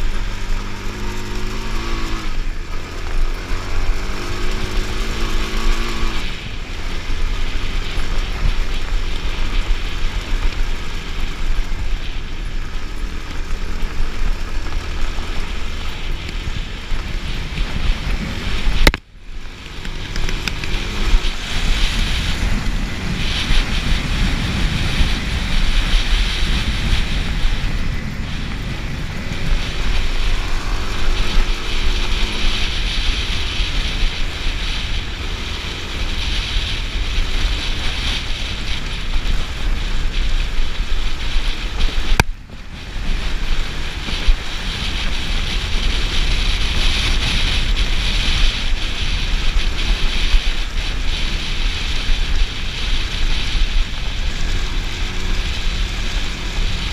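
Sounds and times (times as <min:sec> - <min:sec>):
motorcycle engine running: 0:00.0 - 0:56.9
wind buffeting microphone: 0:00.0 - 0:56.9.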